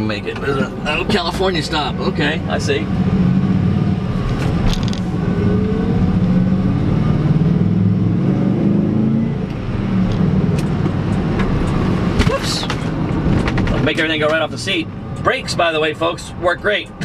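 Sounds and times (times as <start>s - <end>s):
truck engine accelerating: 0.0s - 17.0s.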